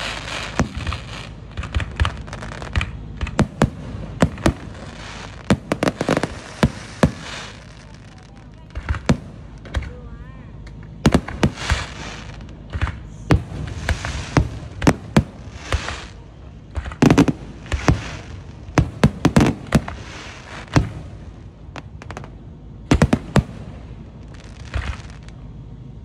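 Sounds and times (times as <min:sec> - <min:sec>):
firework hiss: 0:00.0 - 0:09.9, 0:11.0 - 0:25.4
fireworks bursting with sharp bangs: 0:00.0 - 0:26.0.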